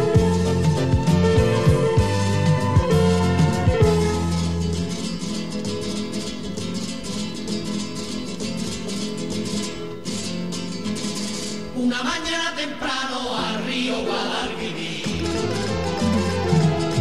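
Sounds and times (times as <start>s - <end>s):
flamenco acoustic guitar: 0.0s - 17.0s.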